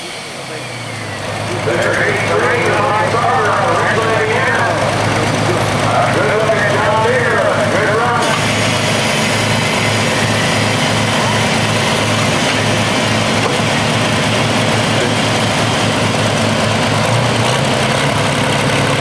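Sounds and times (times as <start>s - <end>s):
diesel tractor engine running loud: 0.0s - 19.0s.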